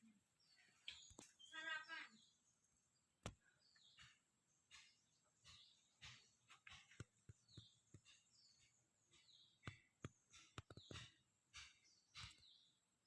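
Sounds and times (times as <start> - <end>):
bird chirps: 0.4 - 12.9.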